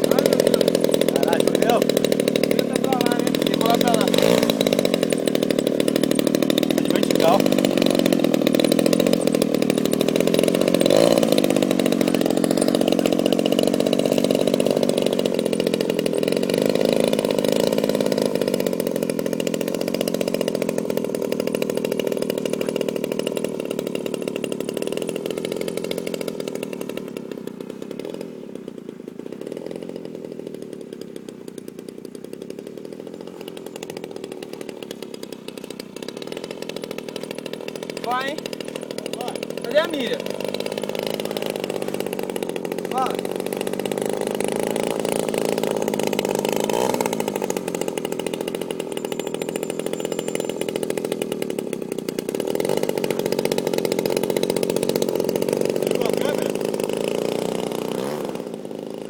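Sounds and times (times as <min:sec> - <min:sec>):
model airplane engine running: 0:00.0 - 0:59.0.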